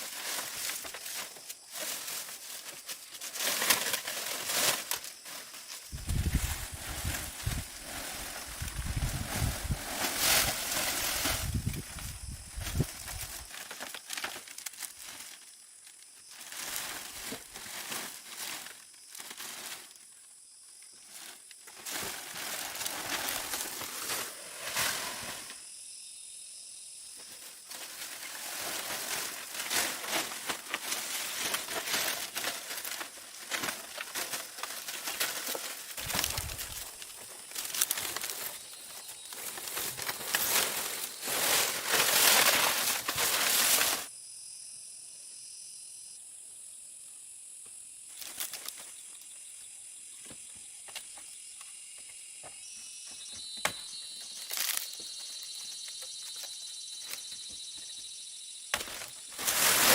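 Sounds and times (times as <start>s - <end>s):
rustling and crinkling handling noise: 0.0s - 20.2s, 20.8s - 25.6s, 27.1s - 44.1s, 48.1s - 49.4s, 53.2s - 58.0s, 58.7s - 59.9s.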